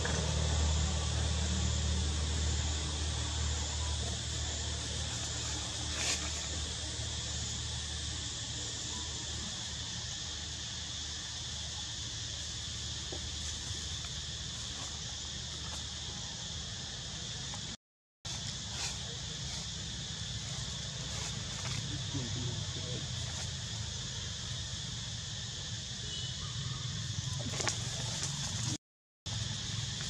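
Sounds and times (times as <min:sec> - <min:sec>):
forest insects droning: 0:00.0 - 0:30.0.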